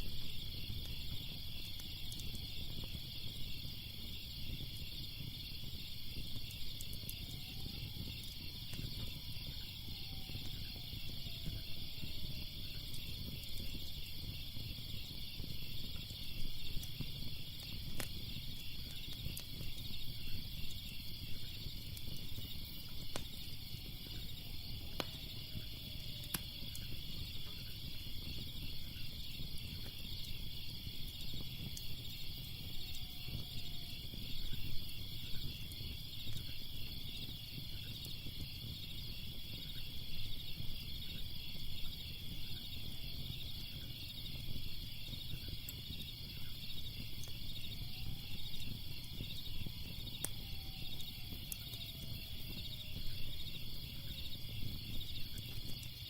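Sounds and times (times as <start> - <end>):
crickets chirping: 0.0 - 56.0
fire crackling and popping: 0.0 - 56.0.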